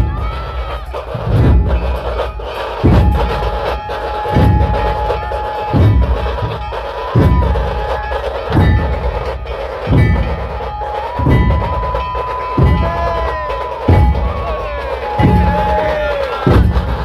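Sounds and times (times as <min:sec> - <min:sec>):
drums beaten with sticks: 0:00.0 - 0:17.0.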